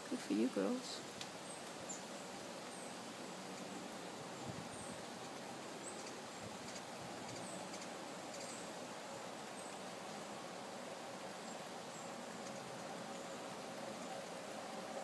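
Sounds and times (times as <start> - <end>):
rain falling on trees: 0.0 - 15.0
small bird chirping: 0.2 - 10.2, 11.2 - 14.4.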